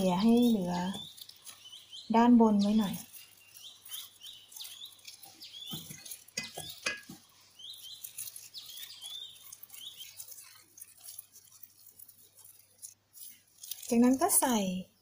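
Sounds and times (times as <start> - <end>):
bird chirping: 0.0 - 15.0
hands patting and spreading rice: 0.0 - 15.0.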